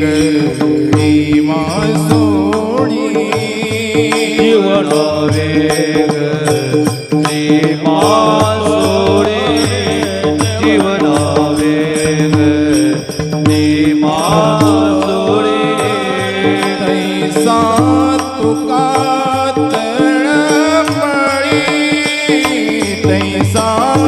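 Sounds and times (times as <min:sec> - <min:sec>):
drum strokes: 0:00.0 - 0:24.0
person singing: 0:00.0 - 0:24.0.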